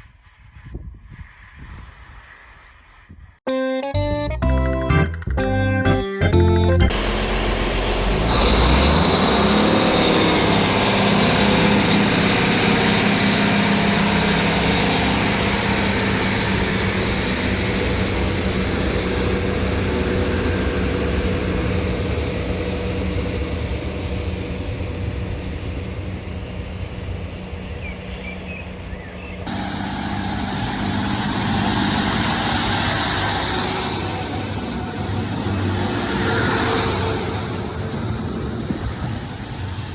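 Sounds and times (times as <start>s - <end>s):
high whine rising in pitch: 6.9s - 28.8s, 29.5s - 39.9s
train engine drone: 6.9s - 39.9s.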